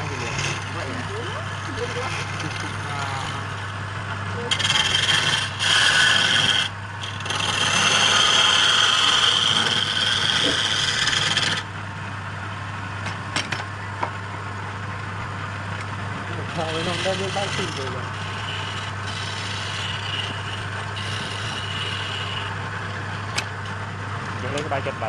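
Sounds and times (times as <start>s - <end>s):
tool rasping against spinning wood: 0.0s - 11.7s, 15.2s - 25.0s
wood lathe humming: 0.0s - 25.0s.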